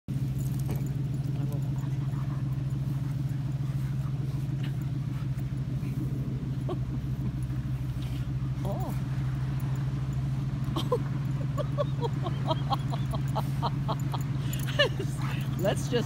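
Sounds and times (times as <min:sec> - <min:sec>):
low motor hum: 0:00.1 - 0:16.0.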